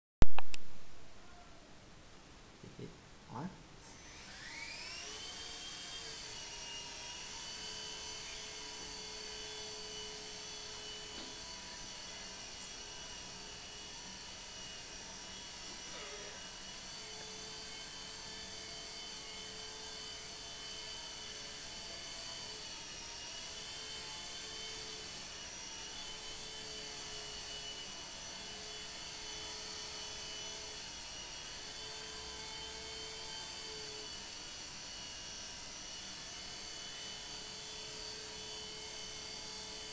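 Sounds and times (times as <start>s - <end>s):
model helicopter motor whine: 3.9s - 39.9s.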